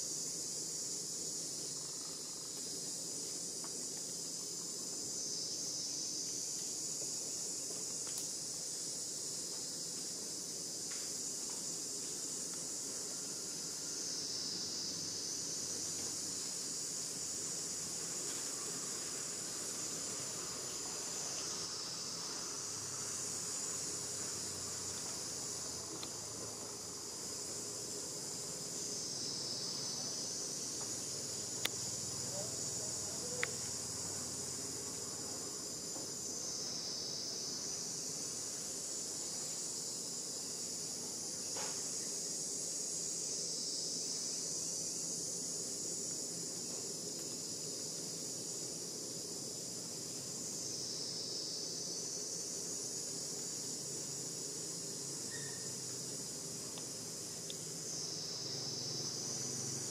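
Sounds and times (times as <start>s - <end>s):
high insect chorus: 0.0s - 59.9s.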